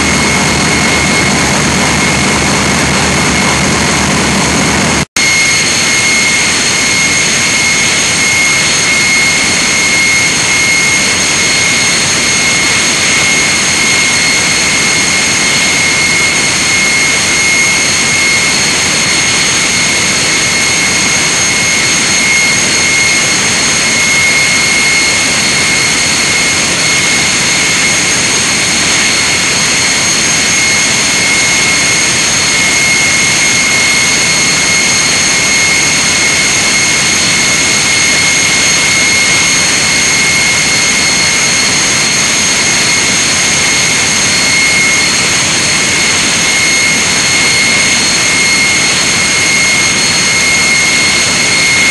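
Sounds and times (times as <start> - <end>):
high steady whine: 0.0 - 51.9
large engine running: 0.0 - 51.9.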